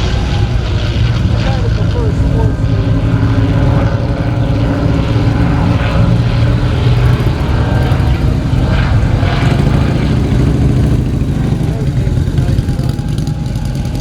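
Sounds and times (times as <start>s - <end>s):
propeller plane engines droning: 0.0s - 14.0s.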